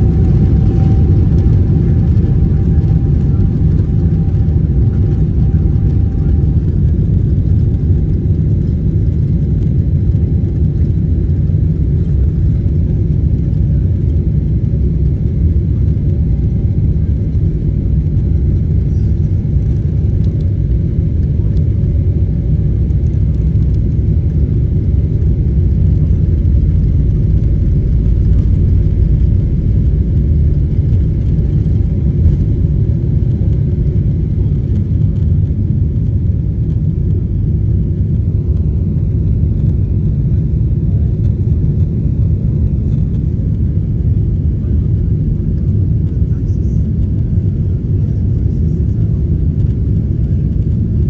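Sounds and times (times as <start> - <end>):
airliner engines low rumble: 0.0 - 51.0.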